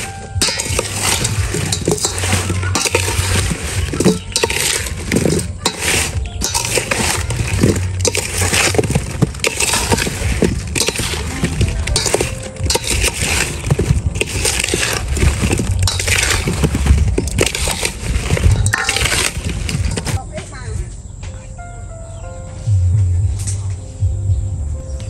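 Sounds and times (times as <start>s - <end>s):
spoon scraping metal bowl: 0.0s - 20.2s.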